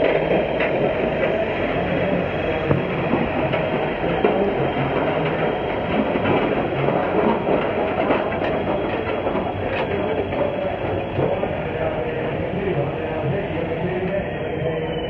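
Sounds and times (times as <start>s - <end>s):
wheels and gearing knocking: 0.0s - 14.2s
mechanical clatter and rumble: 0.0s - 15.0s
tractor engine running: 0.0s - 15.0s.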